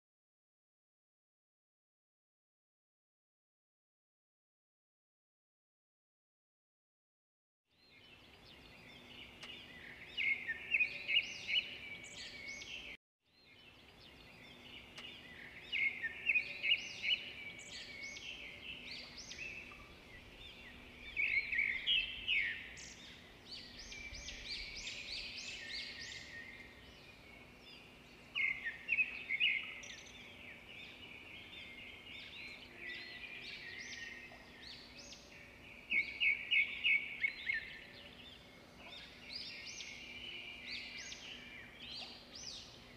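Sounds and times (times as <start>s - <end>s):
birds chirping: 7.8s - 42.9s.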